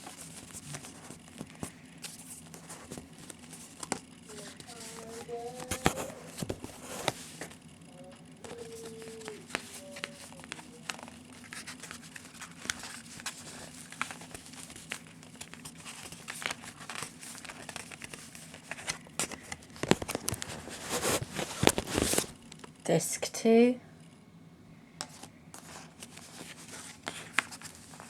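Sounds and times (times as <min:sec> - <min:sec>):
cardboard packaging rustling: 0:00.0 - 0:22.4, 0:25.0 - 0:28.0.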